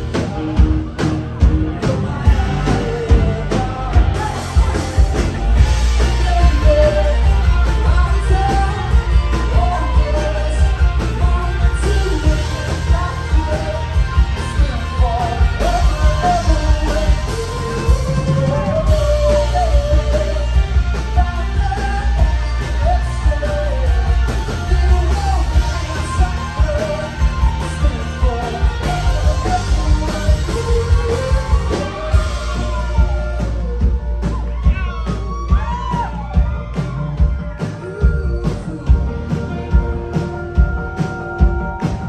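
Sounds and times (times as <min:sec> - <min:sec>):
man singing: 0:00.0 - 0:41.9
drum kit: 0:00.0 - 0:42.0
electric bass: 0:00.0 - 0:42.0
electric guitars: 0:00.0 - 0:42.0.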